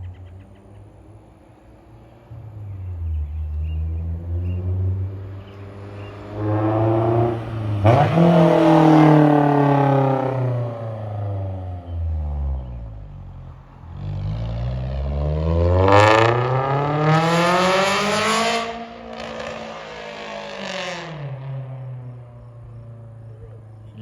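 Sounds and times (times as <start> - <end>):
car engine revving: 0.9 - 24.0.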